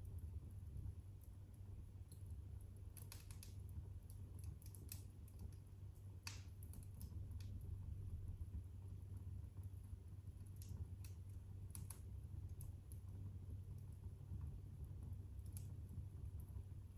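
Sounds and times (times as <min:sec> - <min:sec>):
wood fire crackling and popping: 0:00.0 - 0:16.9.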